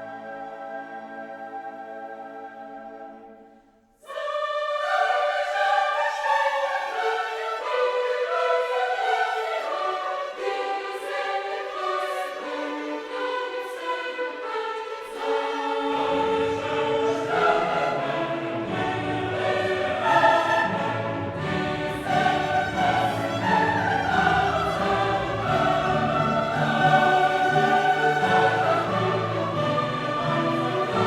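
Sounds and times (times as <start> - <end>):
choir singing: 0.0 - 31.0
orchestra: 0.0 - 31.0.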